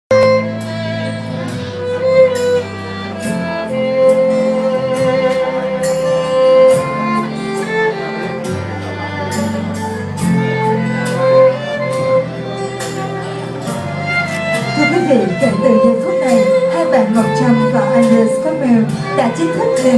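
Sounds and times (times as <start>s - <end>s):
violin and strings music: 0.1s - 19.9s.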